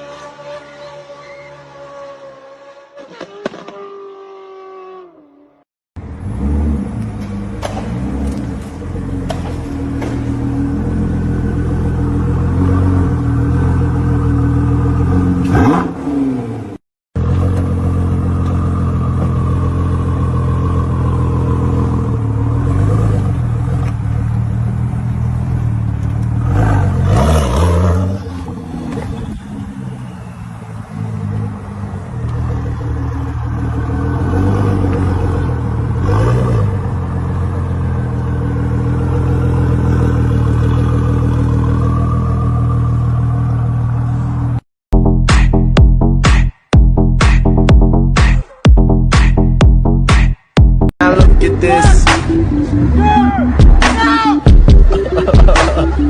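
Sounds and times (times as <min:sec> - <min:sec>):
car engines revving: 0:00.0 - 0:05.4, 0:06.0 - 0:44.6, 0:51.1 - 0:56.0.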